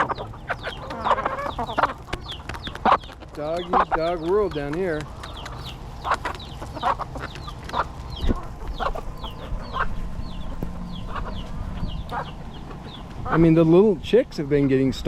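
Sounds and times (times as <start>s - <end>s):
chickens clucking: 0.0s - 15.0s
chicks peeping: 0.0s - 15.0s
steady low rumble: 0.0s - 15.0s.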